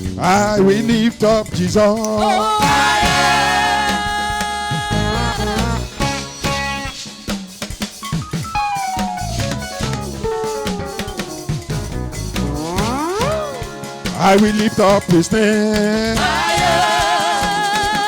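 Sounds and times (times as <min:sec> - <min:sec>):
drum kit steady rhythm: 0:00.0 - 0:18.0
held keyboard or vocal notes: 0:00.2 - 0:07.1, 0:10.2 - 0:18.0.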